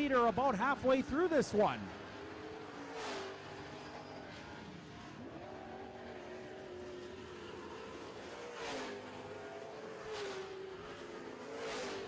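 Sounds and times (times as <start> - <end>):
race truck engines: 0.0 - 12.0.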